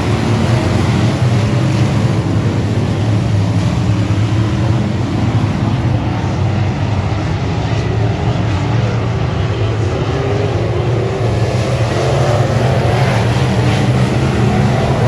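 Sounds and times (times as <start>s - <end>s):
heavy rushing noise: 0.0s - 15.0s
race car engine running hard: 0.0s - 15.0s.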